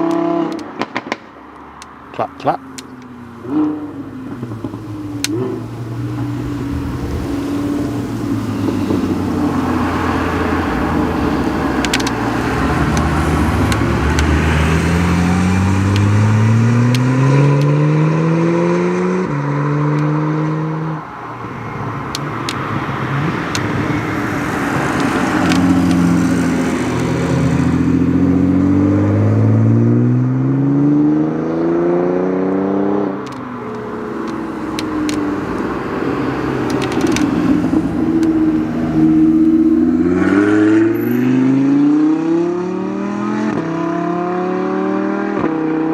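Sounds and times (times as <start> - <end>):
car engines accelerating: 0.0 - 45.9.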